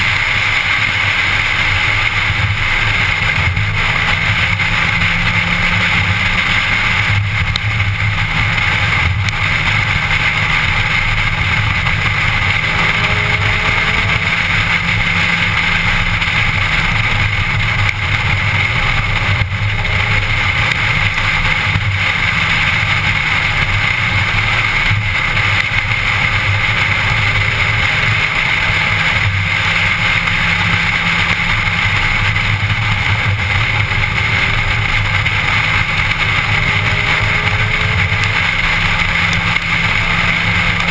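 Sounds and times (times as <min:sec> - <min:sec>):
car interior driving noise: 0:00.0 - 0:40.9.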